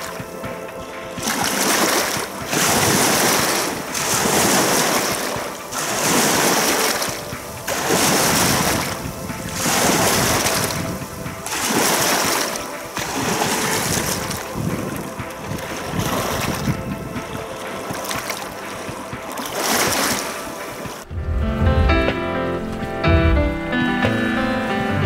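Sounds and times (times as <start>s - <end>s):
small waves washing ashore: 0.0s - 21.1s.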